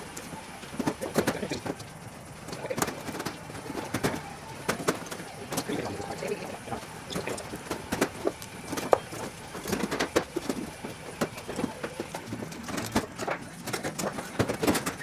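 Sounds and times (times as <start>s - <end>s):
clicks and knocks on sheet metal: 0.0s - 15.0s.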